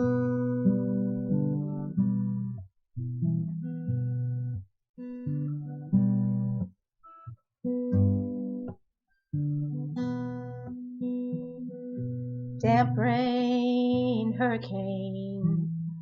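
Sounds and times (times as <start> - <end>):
acoustic guitar chords: 0.0 - 8.8, 9.4 - 16.0.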